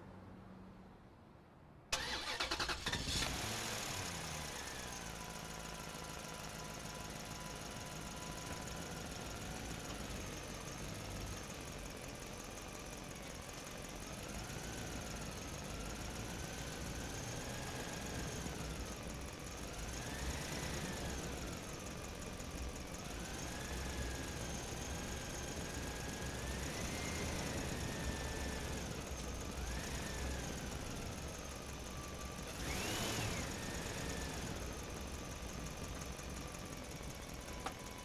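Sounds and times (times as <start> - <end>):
engine running with whine: 1.9 - 38.0.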